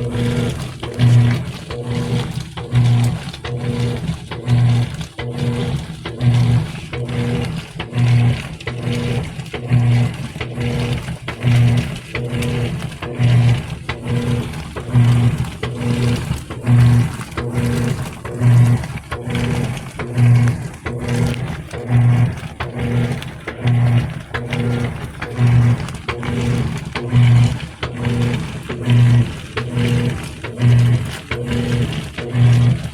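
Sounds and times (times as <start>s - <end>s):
washing machine agitating: 0.0s - 32.9s.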